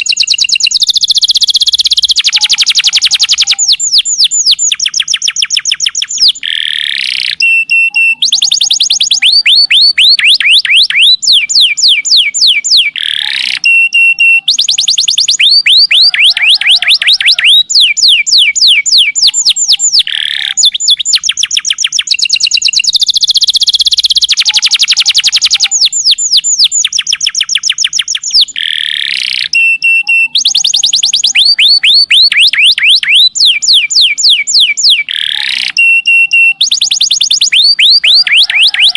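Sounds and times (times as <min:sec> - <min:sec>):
canary singing fast trills: 0:00.0 - 0:38.9.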